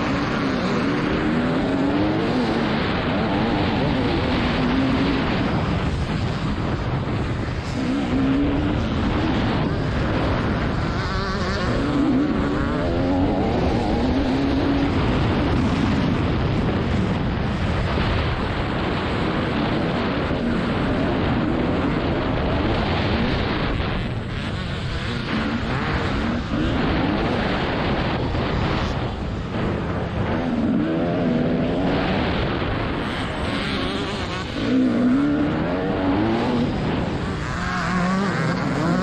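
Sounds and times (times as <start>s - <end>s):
two-stroke motocross engine revving: 0.0s - 39.0s.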